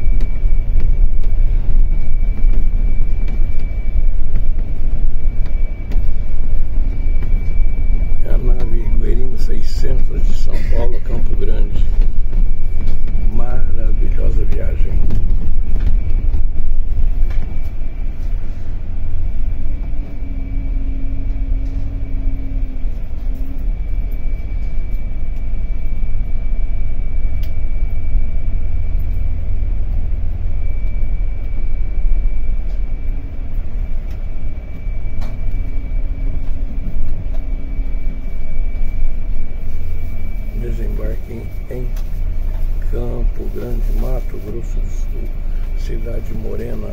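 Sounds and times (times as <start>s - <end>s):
engine and road rumble: 0.0s - 46.9s
faint high whine: 0.0s - 46.9s.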